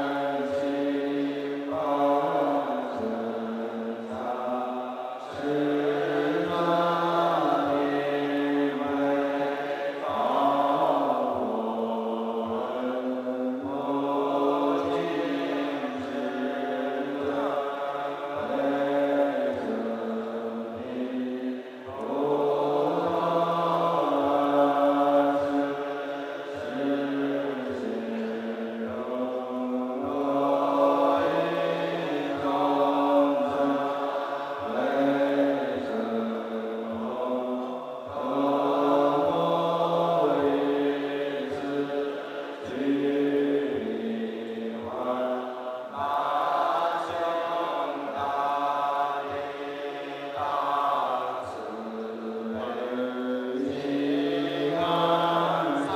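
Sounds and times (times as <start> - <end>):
monks chanting in unison: 0.0 - 55.9.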